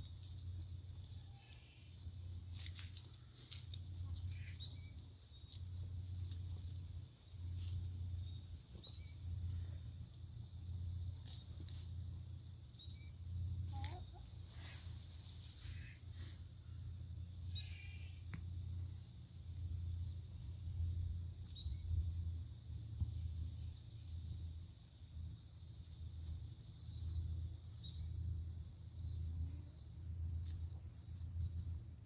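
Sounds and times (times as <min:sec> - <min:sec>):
crickets shrilling: 0:00.0 - 0:29.0.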